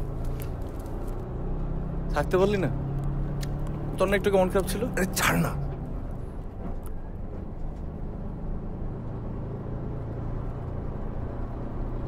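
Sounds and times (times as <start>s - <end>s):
bus engine running: 0.0s - 12.0s
road noise inside cabin: 0.0s - 12.0s.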